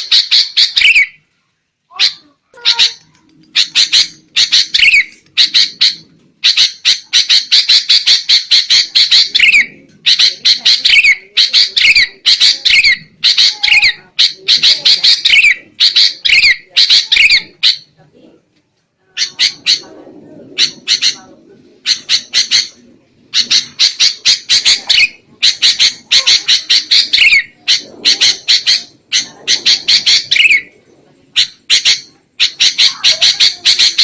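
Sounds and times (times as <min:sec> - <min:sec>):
bulbul chattering calls: 0:01.9 - 0:17.9, 0:20.6 - 0:30.7, 0:31.4 - 0:34.0.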